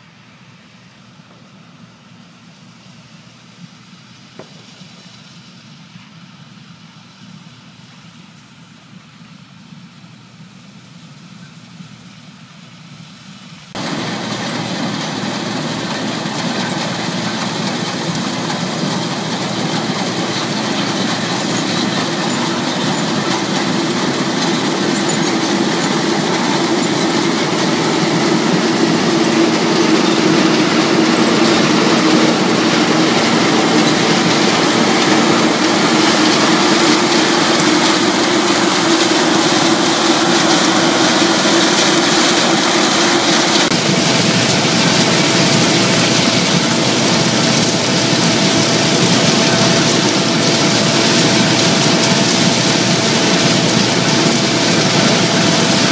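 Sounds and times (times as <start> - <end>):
combine harvester engine droning: 0.0 - 55.9.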